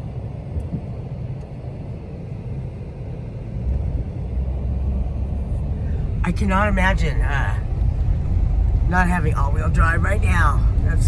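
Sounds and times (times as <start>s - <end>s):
car tyres and drivetrain rumble: 0.0s - 11.0s.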